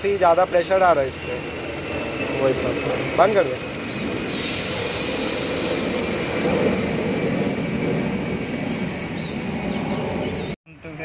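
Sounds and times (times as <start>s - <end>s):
steady noise: 0.0s - 9.2s
petrol engine idling: 0.0s - 9.3s.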